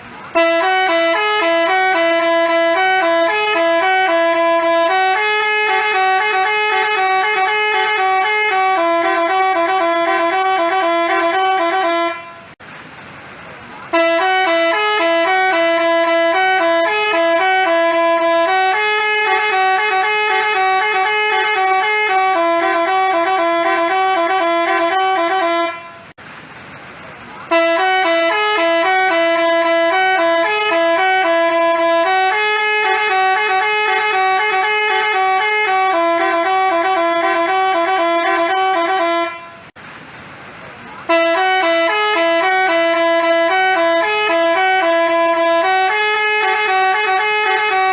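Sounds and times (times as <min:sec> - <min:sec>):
musical bus horn melody: 0:00.0 - 0:12.6, 0:13.9 - 0:26.2, 0:27.5 - 0:39.8, 0:41.0 - 0:47.9.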